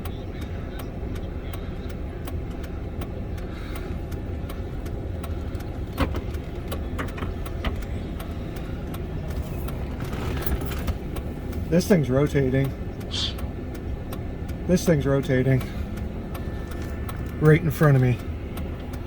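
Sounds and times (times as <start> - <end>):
regular ticking: 0.0 - 19.0
vehicle engine rumble: 0.0 - 19.0.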